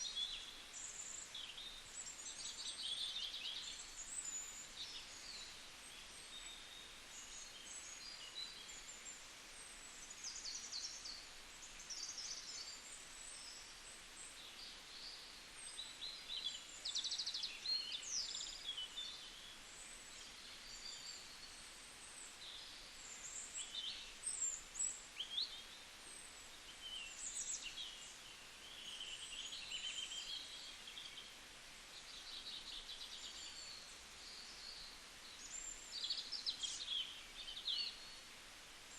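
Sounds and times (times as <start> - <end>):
faint steady hiss: 0.0 - 38.9
songbirds chirping: 0.0 - 38.9.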